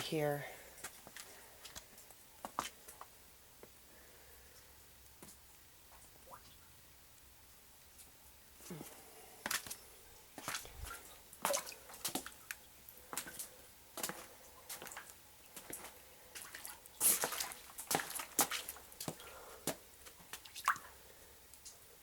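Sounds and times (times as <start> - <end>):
water dripping into standing water: 0.7 - 8.6, 9.4 - 22.0.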